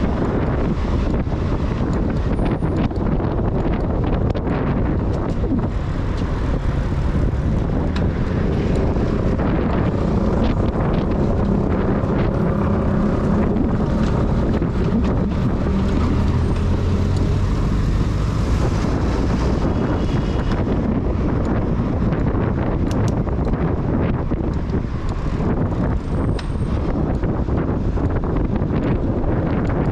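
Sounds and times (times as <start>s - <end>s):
motor vehicle engine hum: 0.0s - 29.9s
street traffic: 0.0s - 29.9s
wind buffeting microphone: 0.0s - 29.9s.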